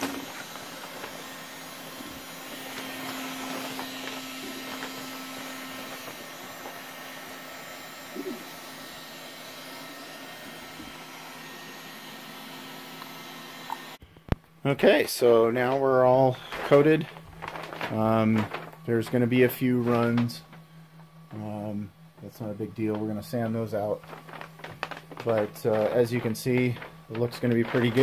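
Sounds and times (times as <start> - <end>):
heat gun blowing: 0.0 - 14.4, 15.2 - 21.7, 22.4 - 28.0.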